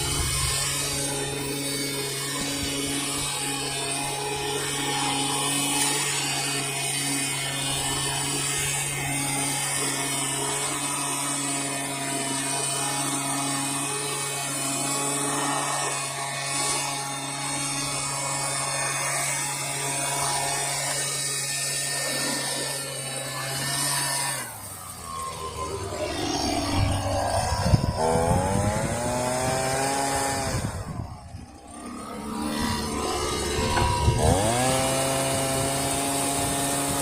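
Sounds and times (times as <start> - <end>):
pressure washer motor hum: 0.0 - 37.0.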